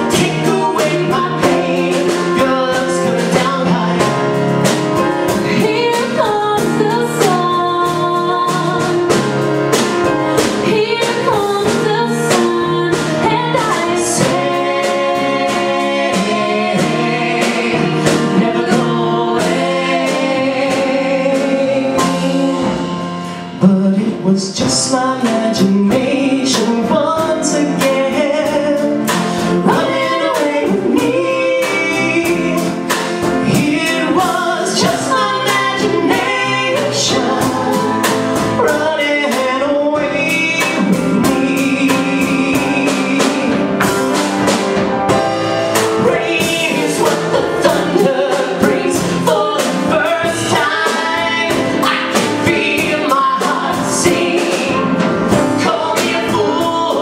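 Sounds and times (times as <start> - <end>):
man and woman singing duet: 0.0 - 44.0, 45.7 - 57.0
live instrumental backing: 0.0 - 57.0.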